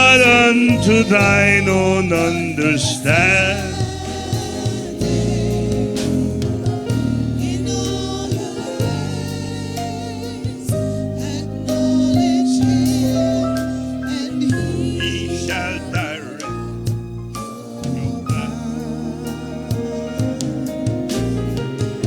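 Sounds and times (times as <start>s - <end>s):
gospel singing with instruments: 0.0s - 22.0s.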